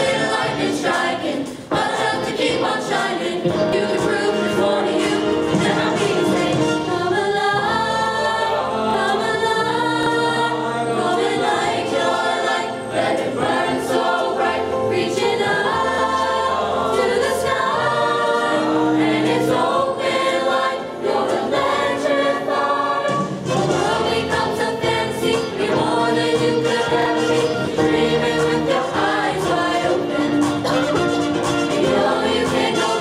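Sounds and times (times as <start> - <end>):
mixed choir singing: 0.0 - 33.0.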